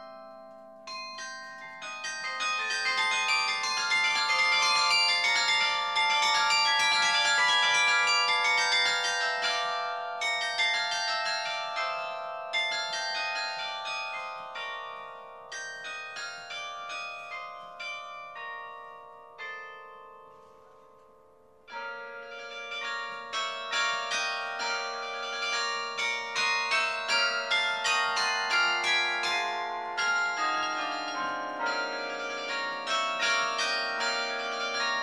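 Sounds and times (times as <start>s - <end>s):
carillon bells melody: 0.0s - 35.0s.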